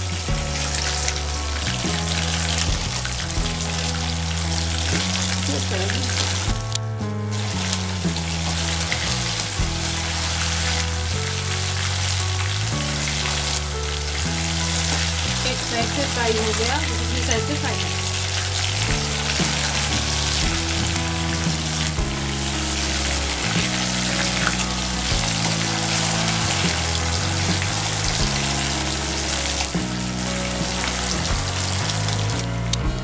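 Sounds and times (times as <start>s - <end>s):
spoon stirring frying pieces: 0.0s - 6.5s, 7.3s - 32.4s
chicken deep-frying in oil: 0.0s - 33.0s.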